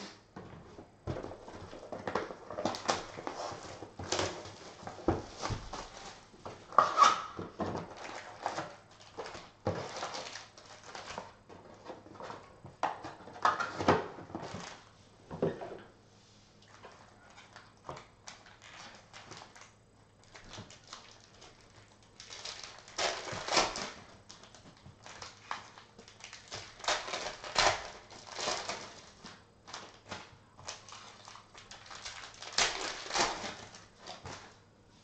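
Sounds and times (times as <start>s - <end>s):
foil packs crinkling: 1.1s - 14.9s, 16.6s - 34.6s.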